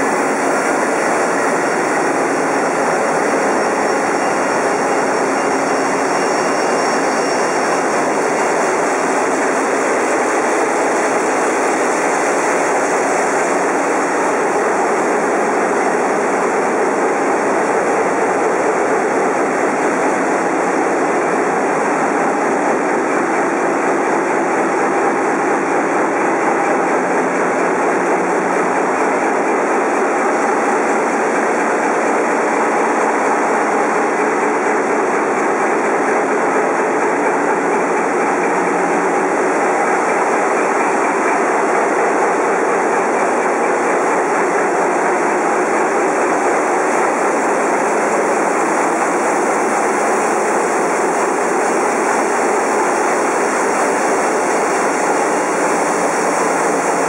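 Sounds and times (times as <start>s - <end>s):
large diesel engines running: 0.0s - 57.0s.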